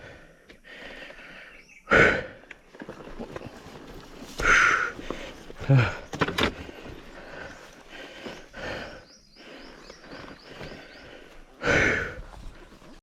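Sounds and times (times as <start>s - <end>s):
person breathing hard: 0.0s - 2.5s, 4.2s - 13.0s.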